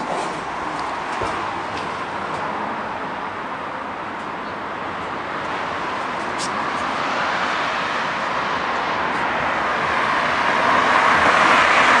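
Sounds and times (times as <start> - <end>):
car approaching on road: 0.0 - 12.0.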